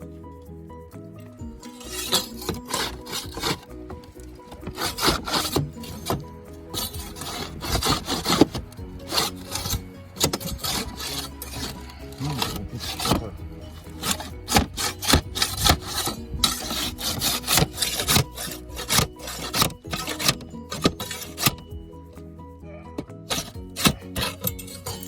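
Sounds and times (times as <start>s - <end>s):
background music: 0.0s - 25.0s
hand tool scraping roofing: 1.3s - 21.8s, 23.3s - 25.0s.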